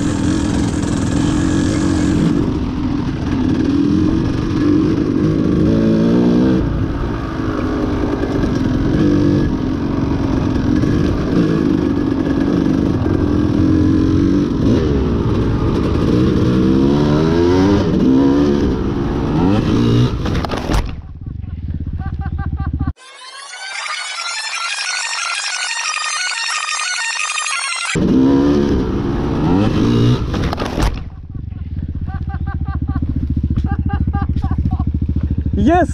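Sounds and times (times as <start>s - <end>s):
motorcycle engine revving: 0.0s - 21.0s, 28.0s - 35.9s.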